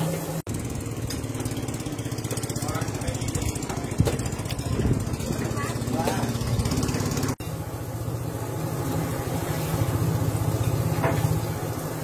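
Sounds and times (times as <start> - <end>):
motor running with low throb: 0.5 - 12.0.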